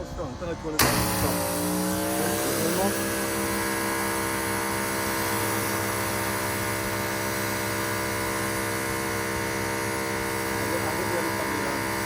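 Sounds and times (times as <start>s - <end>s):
pressure washer running: 0.0s - 12.0s
water spray hissing: 0.8s - 12.0s.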